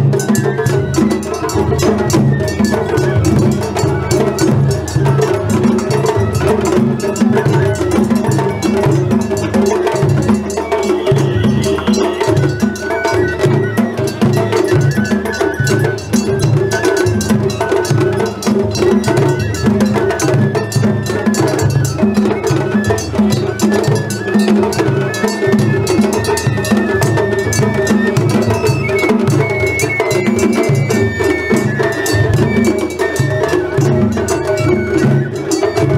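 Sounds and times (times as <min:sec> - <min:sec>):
bamboo flute melody: 0:00.0 - 0:35.9
taiko drum beats: 0:00.0 - 0:35.9.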